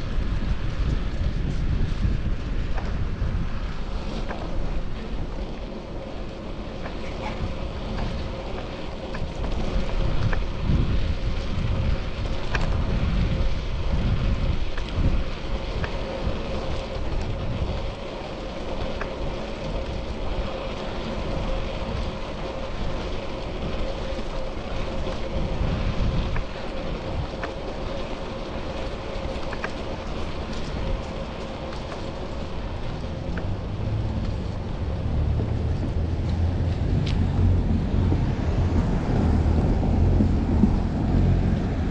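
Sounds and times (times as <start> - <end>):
road and traffic noise: 0.0 - 41.9
wind buffeting microphone: 0.0 - 41.9.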